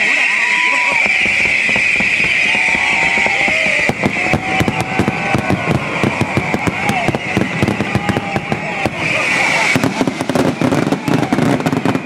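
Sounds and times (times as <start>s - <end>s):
fireworks crackling hiss: 0.0s - 12.0s
firework shells bursting bangs: 0.9s - 12.0s.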